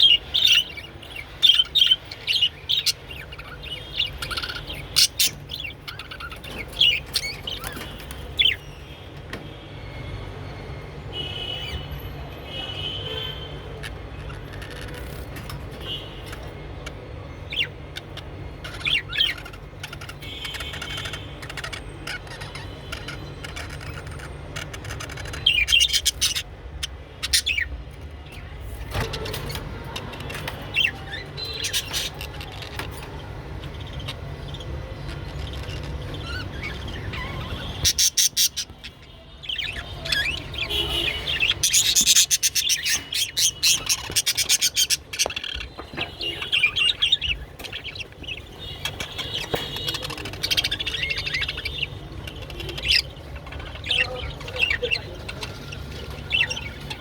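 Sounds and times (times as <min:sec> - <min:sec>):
budgerigars chirping and chattering: 0:00.0 - 0:11.9, 0:12.5 - 0:57.0.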